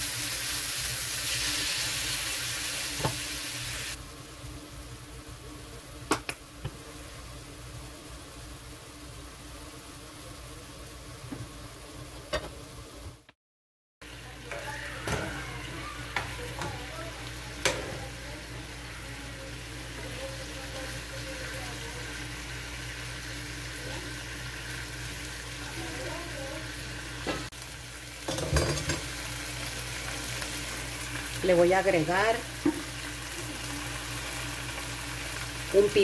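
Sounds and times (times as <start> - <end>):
chicken sizzling in a pan: 0.0 - 13.3, 14.0 - 36.0.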